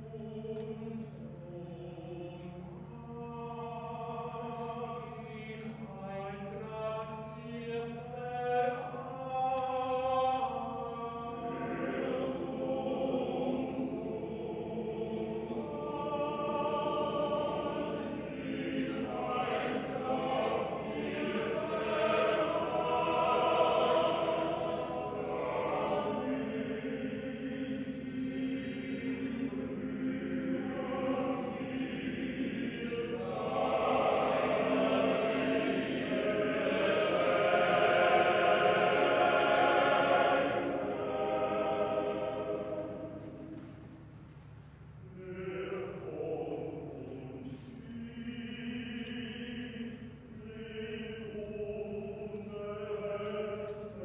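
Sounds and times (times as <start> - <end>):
male chorus singing in harmony: 0.0 - 44.0, 45.0 - 54.0.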